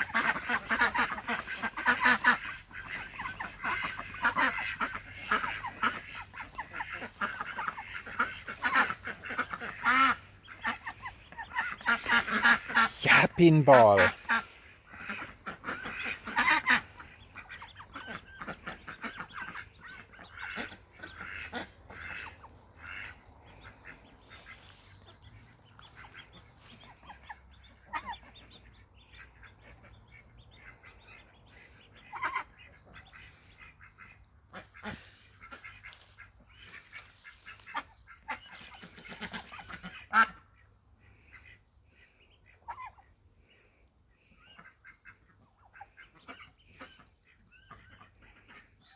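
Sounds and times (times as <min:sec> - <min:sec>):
ducks quacking: 0:00.0 - 0:48.9.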